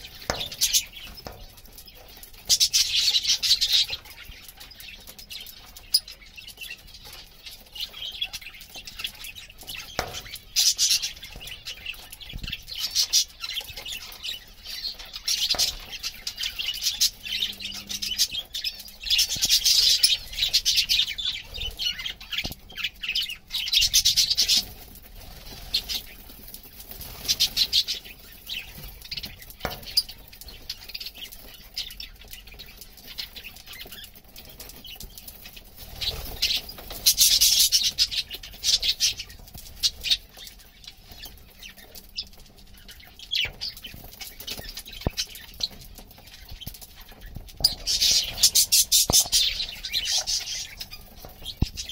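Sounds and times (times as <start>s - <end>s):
lovebirds chattering: 0.0s - 51.9s.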